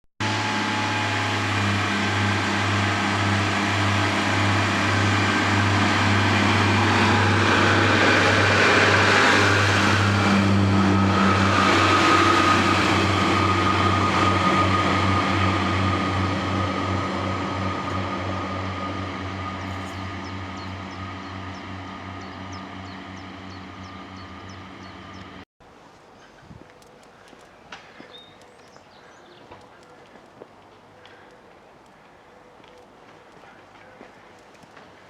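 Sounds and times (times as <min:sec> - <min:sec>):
train running: 0:00.2 - 0:25.4, 0:26.7 - 0:35.0.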